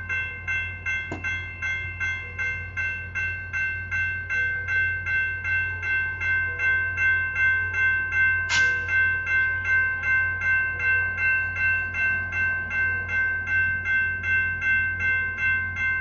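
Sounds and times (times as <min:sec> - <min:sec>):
railroad crossing bell ringing: 0:00.0 - 0:16.0.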